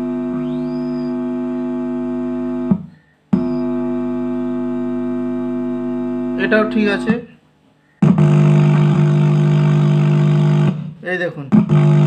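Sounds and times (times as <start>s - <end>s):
mains hum from speaker: 0.0s - 12.0s.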